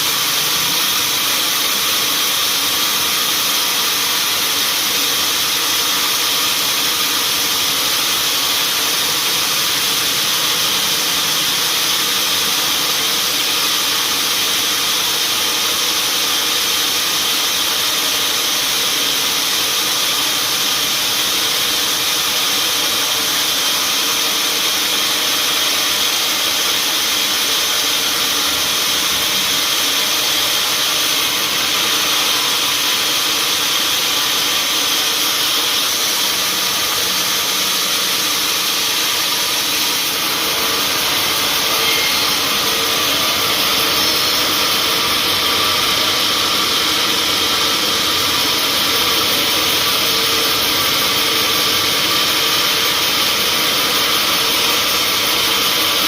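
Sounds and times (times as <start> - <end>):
sawmill machinery rushing noise: 0.0 - 56.0.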